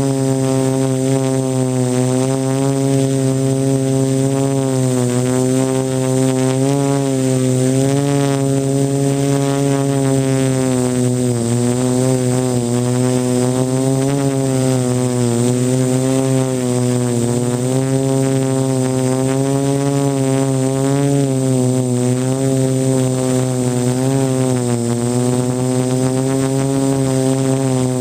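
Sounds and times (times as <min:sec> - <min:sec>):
quadcopter motors buzzing: 0:00.0 - 0:28.0.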